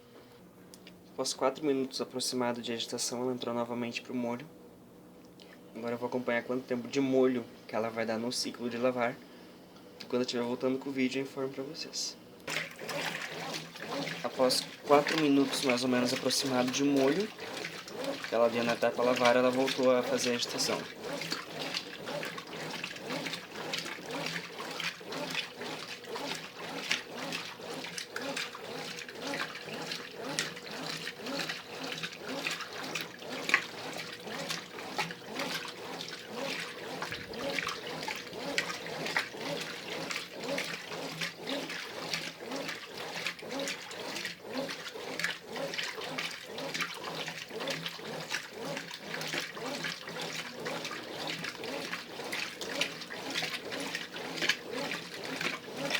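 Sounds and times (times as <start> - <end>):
washing machine churning water: 5.7 - 9.3, 10.0 - 55.9.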